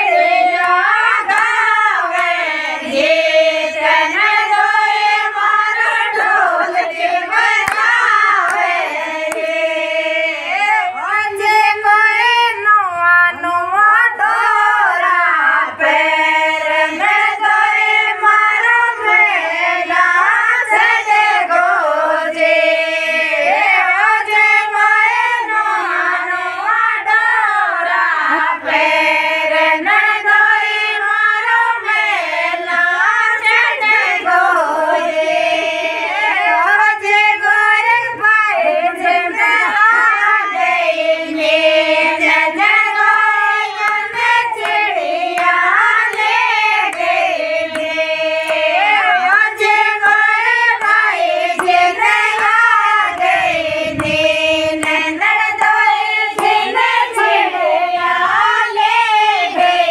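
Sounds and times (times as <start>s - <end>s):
women singing folk song in unison: 0.0s - 59.9s.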